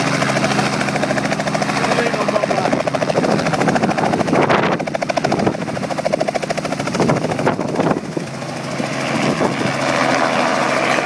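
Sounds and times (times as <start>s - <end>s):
helicopter rotor chop: 0.0s - 11.0s.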